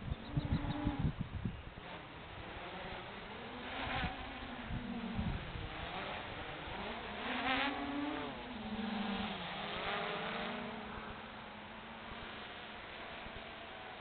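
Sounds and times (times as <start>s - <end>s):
quadcopter propellers buzzing: 0.0s - 14.0s.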